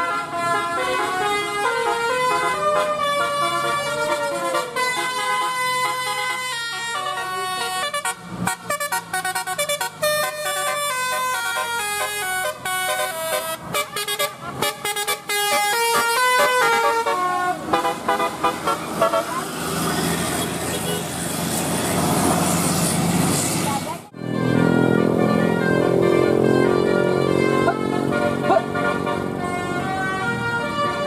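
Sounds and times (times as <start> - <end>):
bus horn playing melody: 0.0 - 19.6, 24.1 - 31.0.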